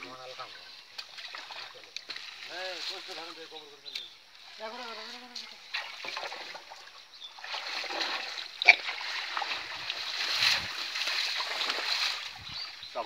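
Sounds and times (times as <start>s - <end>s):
shallow water splashing: 0.0s - 3.6s, 4.2s - 13.0s.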